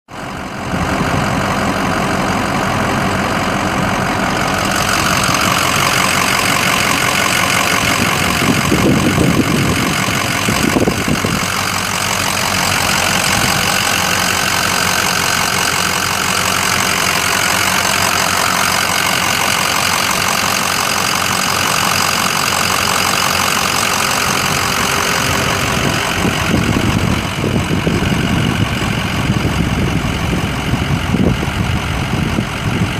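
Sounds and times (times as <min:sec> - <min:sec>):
diesel engine idling: 0:00.1 - 0:32.9.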